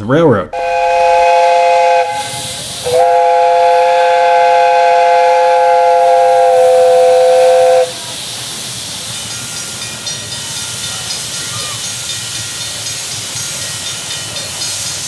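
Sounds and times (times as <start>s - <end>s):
chime steam whistle blast: 0.6s - 15.0s
steam hissing: 0.6s - 15.0s.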